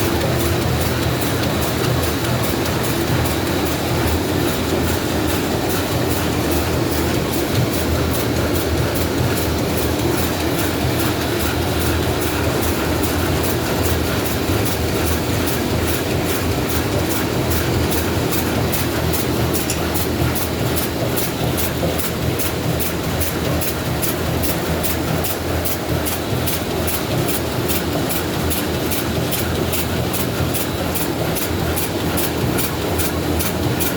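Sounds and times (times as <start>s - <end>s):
bag-making machine clattering: 0.0s - 33.9s
fast regular machine clicking: 0.0s - 33.9s.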